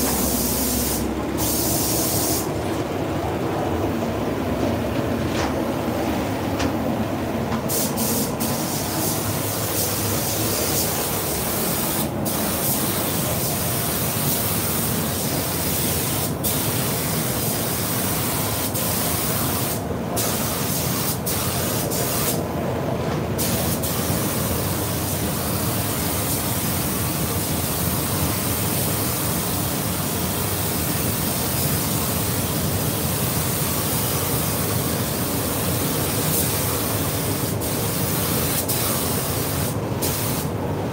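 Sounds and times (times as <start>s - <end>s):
spray gun hissing: 0.0s - 2.6s, 7.7s - 22.4s, 23.4s - 40.5s.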